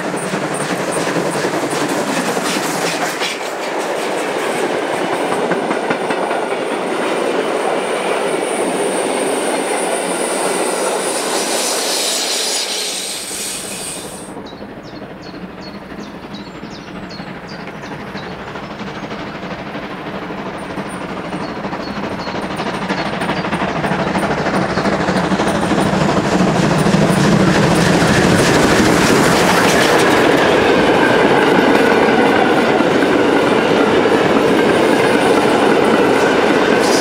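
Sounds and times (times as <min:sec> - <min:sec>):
steam train passing: 0:00.0 - 0:37.0.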